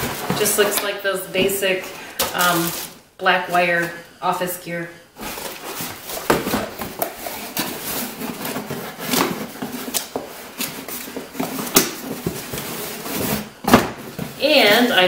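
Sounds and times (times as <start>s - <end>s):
boxes knocking: 0.0s - 2.7s, 5.3s - 15.0s
cardboard rustling and scraping: 0.0s - 3.0s, 5.2s - 15.0s.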